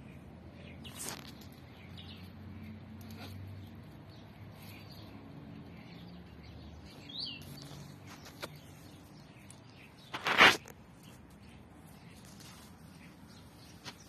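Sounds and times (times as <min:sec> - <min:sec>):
falling bird chirp: 0:00.0 - 0:14.0.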